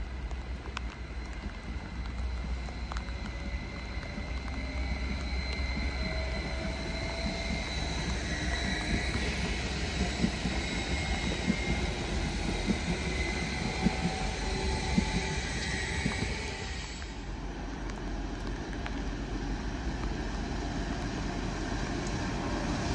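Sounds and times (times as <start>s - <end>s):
electric train whine and rumble: 0.0s - 22.9s.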